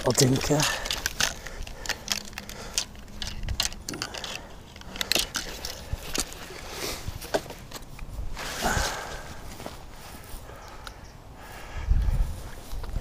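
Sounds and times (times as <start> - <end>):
fishing tackle clicks and rustles: 0.0 - 11.0.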